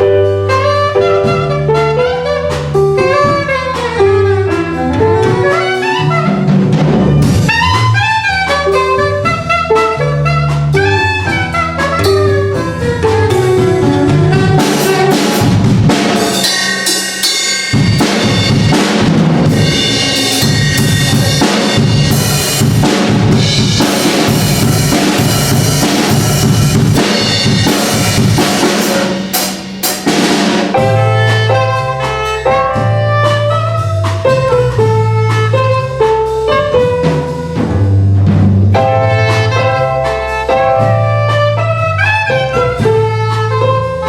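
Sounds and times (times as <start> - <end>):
drum kit solo: 0.0 - 44.0
live band playing: 0.0 - 44.0.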